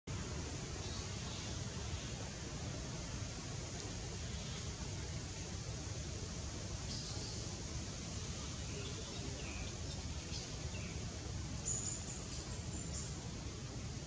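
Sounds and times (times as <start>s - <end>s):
forest background noise: 0.1s - 14.0s.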